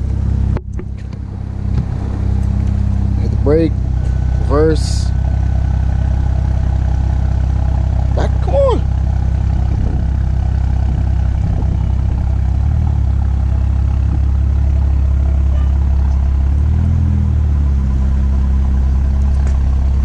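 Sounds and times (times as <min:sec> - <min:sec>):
car engine running at low revs: 0:00.0 - 0:20.0.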